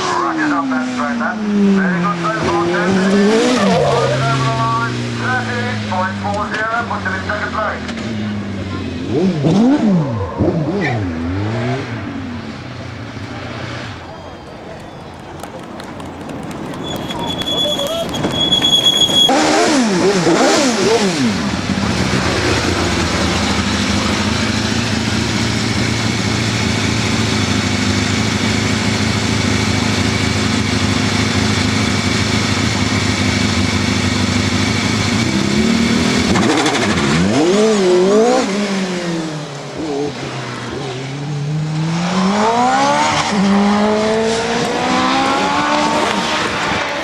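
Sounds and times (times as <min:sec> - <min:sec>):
racing car engine revving: 0:00.0 - 0:14.2, 0:18.3 - 0:47.0.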